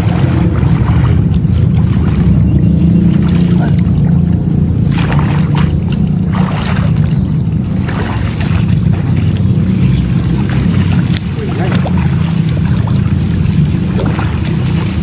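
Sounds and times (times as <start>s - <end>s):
low rush of water: 0.0s - 15.0s
water splashing around legs: 0.0s - 15.0s.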